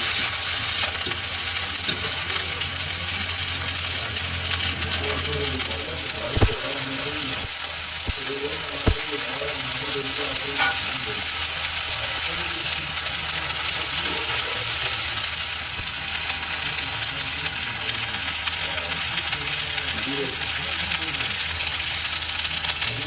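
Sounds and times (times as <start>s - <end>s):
faint voices: 0.0s - 23.0s
steady hissing workshop noise: 0.0s - 23.0s.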